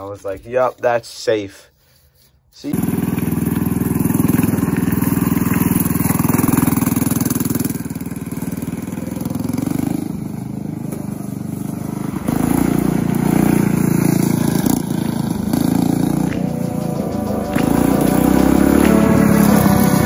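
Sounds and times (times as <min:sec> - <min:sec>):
go-kart engine running hard: 0:02.7 - 0:20.0.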